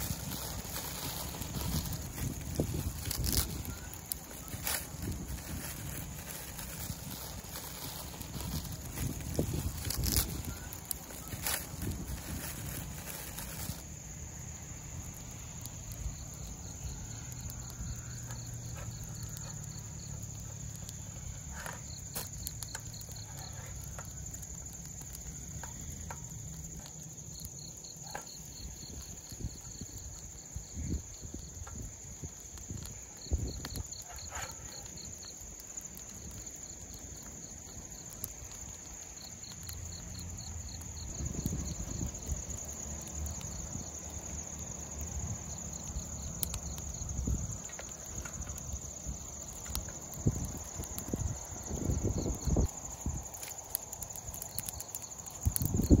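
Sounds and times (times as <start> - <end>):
crickets chirping: 0.0 - 56.0
high insect drone: 0.0 - 56.0.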